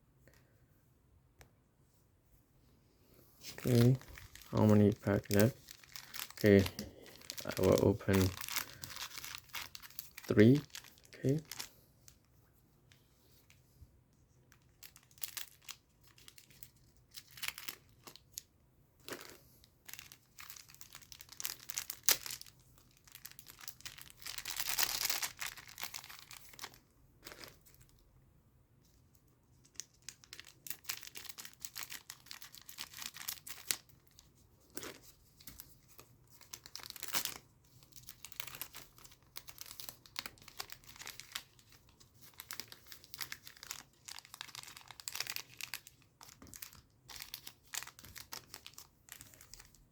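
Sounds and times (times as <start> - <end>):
foil wrappers crinkling and tearing: 3.4 - 11.7, 14.5 - 18.4, 19.1 - 27.9, 29.7 - 49.9.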